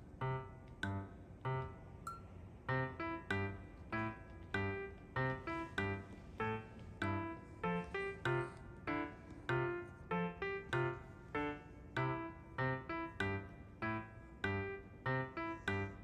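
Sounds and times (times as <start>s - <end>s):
piano playing light melody: 0.0s - 16.0s.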